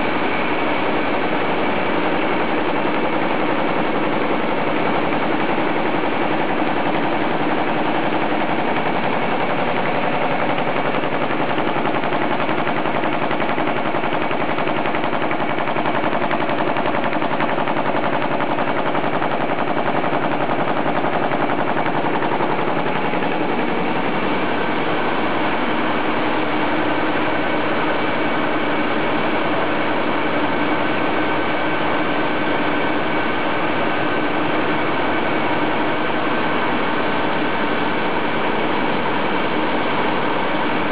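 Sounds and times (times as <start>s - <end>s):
machine hum: 0.0s - 33.4s
rapid mechanical clatter: 0.0s - 40.9s.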